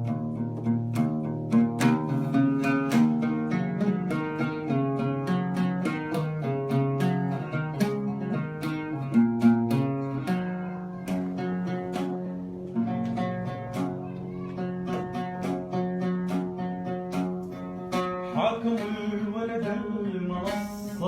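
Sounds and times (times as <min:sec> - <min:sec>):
strummed string instrument chords: 0:00.0 - 0:21.0.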